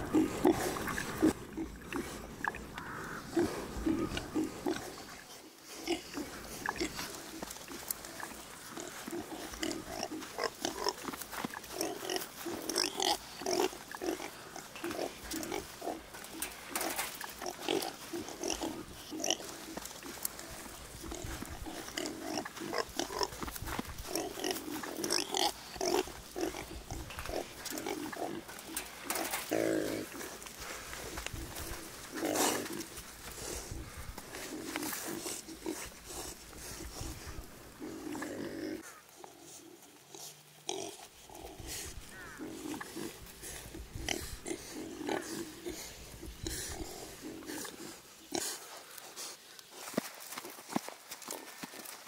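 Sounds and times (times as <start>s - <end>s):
young pigs grunting: 0.0s - 48.7s.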